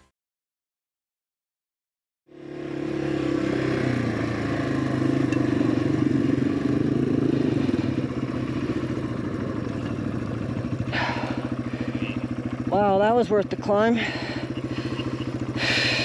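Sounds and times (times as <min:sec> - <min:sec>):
motorcycle engine running: 0:02.3 - 0:16.0.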